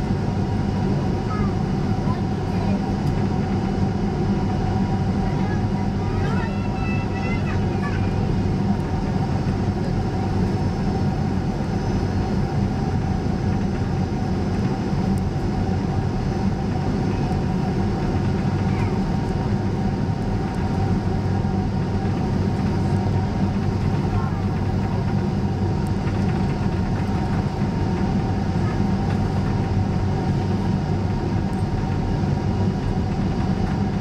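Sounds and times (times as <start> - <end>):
aircraft cabin engine drone: 0.0 - 34.0.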